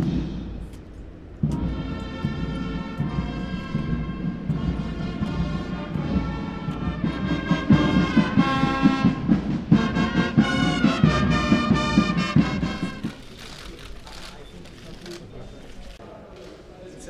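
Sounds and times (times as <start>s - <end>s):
military brass band march: 0.0s - 13.7s
steady drum beat: 0.0s - 13.9s.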